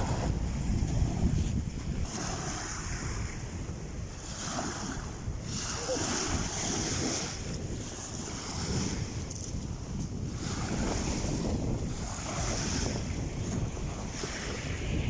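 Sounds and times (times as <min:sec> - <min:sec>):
sea waves washing in: 0:00.0 - 0:15.0
wind rumbling on microphone: 0:00.0 - 0:15.0.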